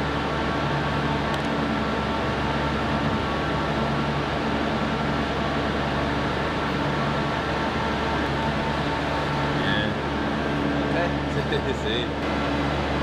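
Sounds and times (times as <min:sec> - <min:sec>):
machine hum and whoosh: 0:00.0 - 0:13.0.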